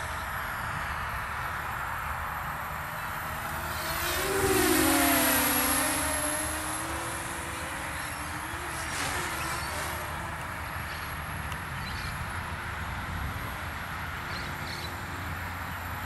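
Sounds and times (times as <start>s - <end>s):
model plane motor whining: 2.8s - 15.9s.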